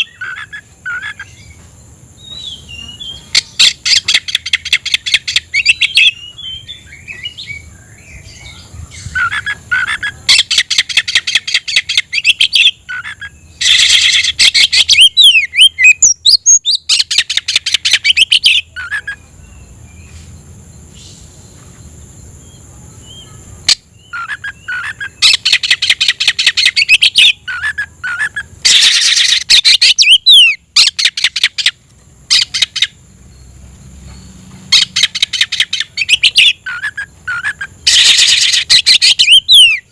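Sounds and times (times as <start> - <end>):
bird singing chattering and whistling: 0.0 - 39.9.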